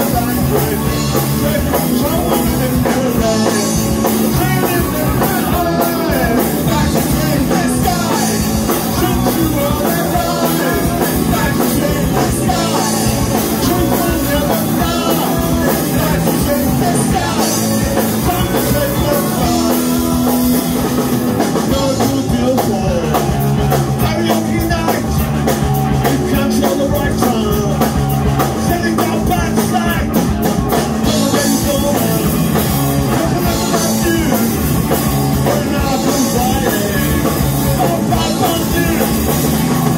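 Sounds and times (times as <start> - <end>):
bass guitar: 0.0 - 39.9
drum kit: 0.0 - 39.9
electric guitars: 0.0 - 39.9
person singing: 0.0 - 39.9.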